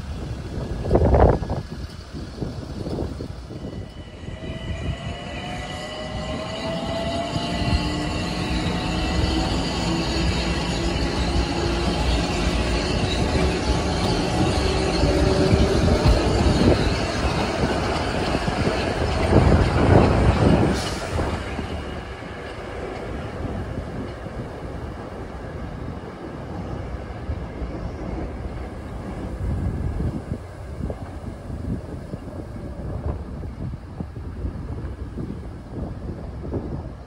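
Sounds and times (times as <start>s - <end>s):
commuter train passing on rails: 0.0s - 37.0s.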